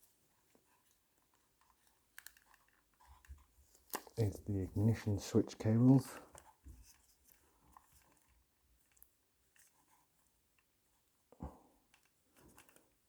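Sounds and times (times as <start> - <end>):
faint handling clicks and rustles: 0.0 - 13.0.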